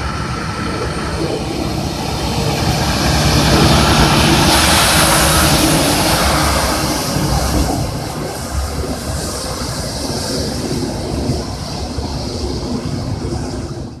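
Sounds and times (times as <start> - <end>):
large vehicle engine rumbling: 0.0 - 14.0.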